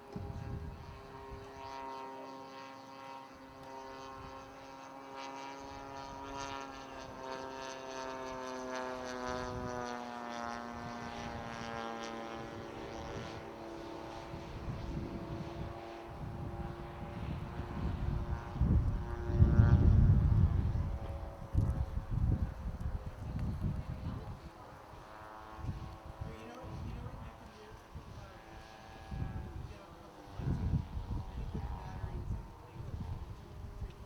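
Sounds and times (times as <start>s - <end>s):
model airplane engine droning: 0.0s - 34.0s.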